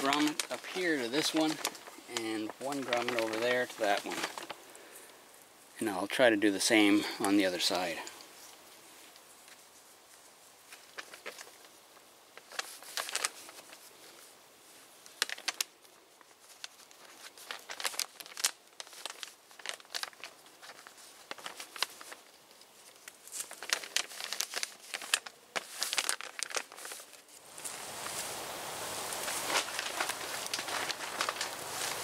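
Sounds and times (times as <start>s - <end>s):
plastic tarp crinkling: 0.0s - 5.0s, 10.7s - 14.3s, 14.9s - 32.0s.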